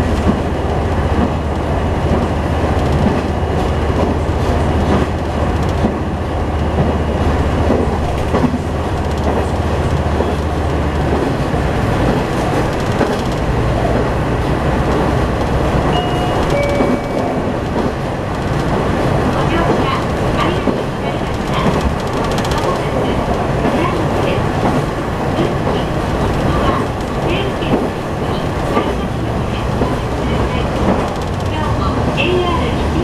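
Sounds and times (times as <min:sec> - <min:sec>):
clickety-clack over rail joints: 0:00.0 - 0:33.0
train wheels rumbling on rail: 0:00.0 - 0:33.0.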